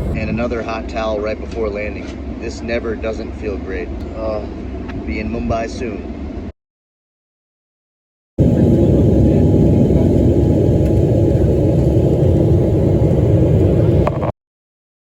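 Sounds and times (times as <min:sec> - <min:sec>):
airliner cabin engine rumble: 0:00.0 - 0:06.5, 0:08.4 - 0:14.4.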